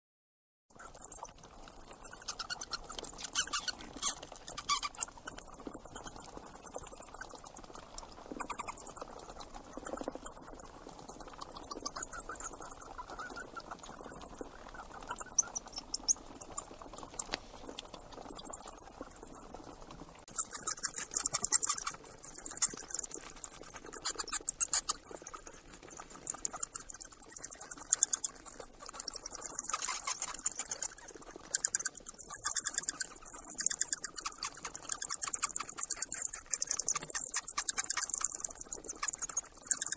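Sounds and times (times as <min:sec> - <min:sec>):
rats squeaking: 0:00.8 - 0:39.9.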